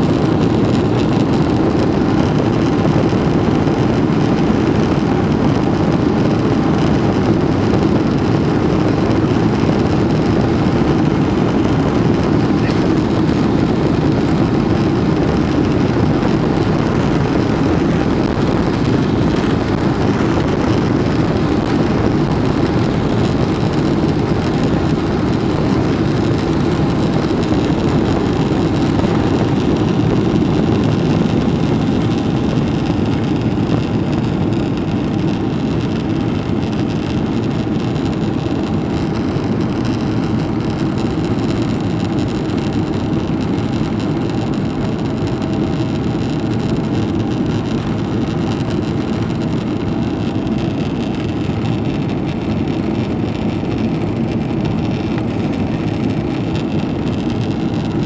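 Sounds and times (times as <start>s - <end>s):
jet engine and air rush in cabin: 0.0s - 58.0s.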